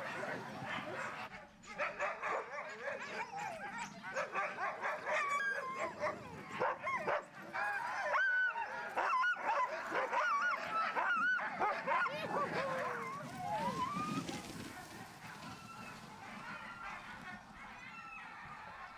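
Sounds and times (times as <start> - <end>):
dogs yelping and howling: 0.1 - 18.9.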